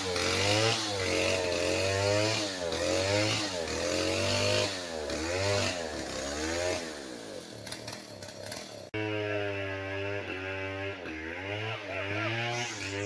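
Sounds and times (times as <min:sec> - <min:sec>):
chainsaw cutting into tree: 0:00.0 - 0:13.0.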